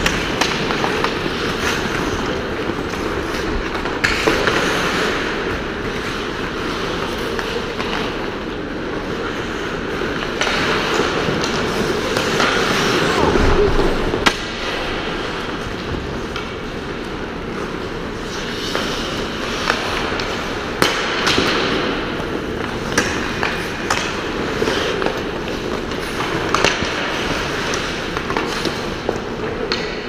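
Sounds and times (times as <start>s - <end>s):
hockey sticks clacking pucks: 0.0s - 13.3s, 14.2s - 30.0s
skates scraping on ice: 0.0s - 30.0s.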